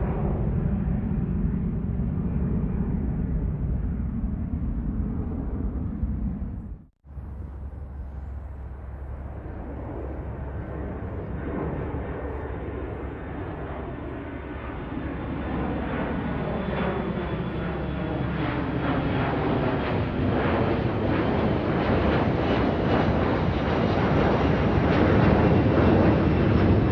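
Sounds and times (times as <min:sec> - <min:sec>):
airplane engine rumble: 0:00.0 - 0:26.9.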